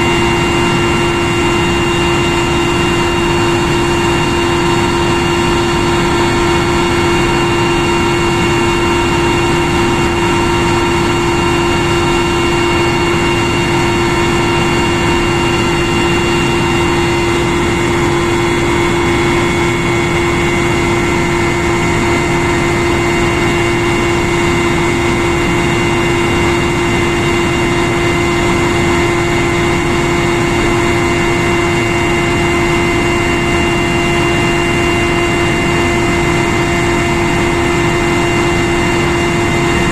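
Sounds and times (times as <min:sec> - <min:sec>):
helicopter cabin noise rushing: 0:00.0 - 0:39.9
low hum: 0:00.0 - 0:39.9
steady whining tones: 0:00.0 - 0:39.9.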